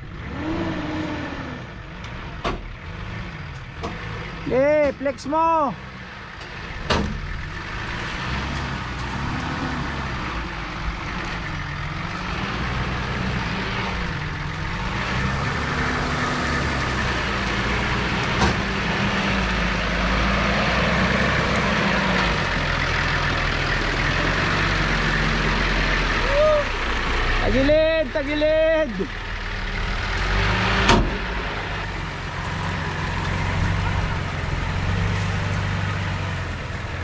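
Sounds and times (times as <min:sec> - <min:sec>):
off-road vehicle engine low revs: 0:00.0 - 0:37.0.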